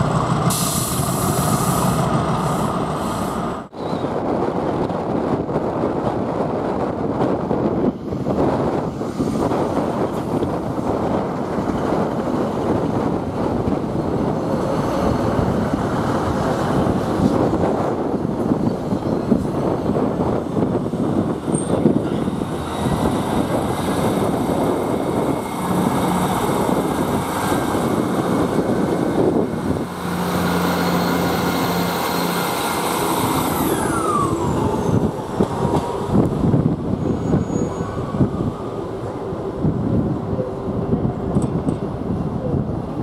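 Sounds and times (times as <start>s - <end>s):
diesel train engines rumbling: 0.0s - 43.0s
high train whine: 0.0s - 43.0s.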